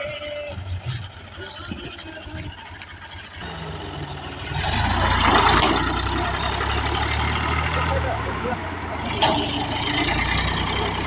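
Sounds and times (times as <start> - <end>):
diesel tractor engine running: 0.0 - 11.0.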